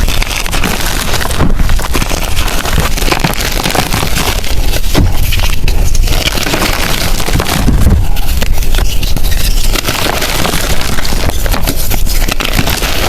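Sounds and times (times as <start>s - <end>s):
chalk crushed by hand: 0.0s - 13.0s.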